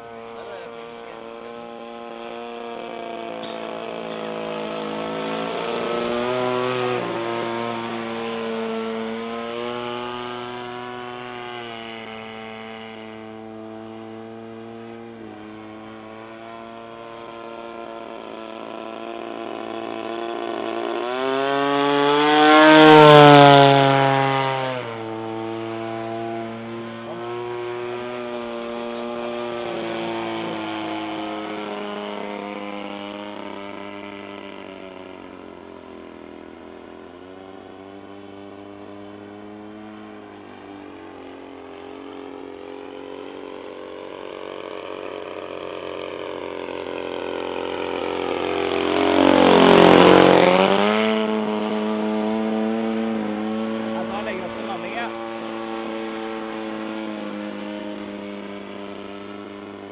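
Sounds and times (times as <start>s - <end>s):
model plane engine buzzing: 0.0s - 59.9s.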